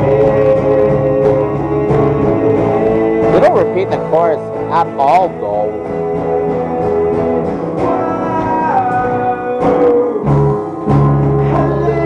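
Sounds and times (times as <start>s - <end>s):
live band music: 0.0s - 12.0s
strummed guitar: 0.0s - 12.0s.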